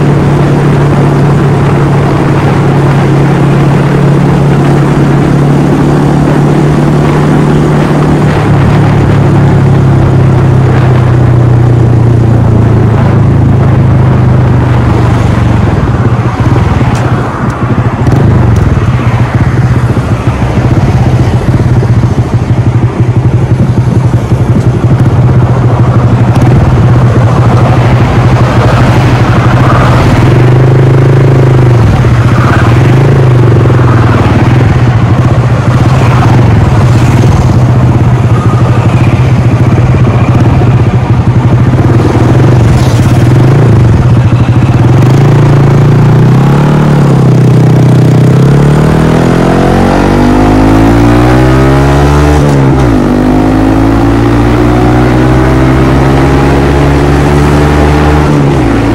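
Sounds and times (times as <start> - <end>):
motorcycle engine running: 0.0 - 58.9
wind rushing over microphone: 0.0 - 58.9.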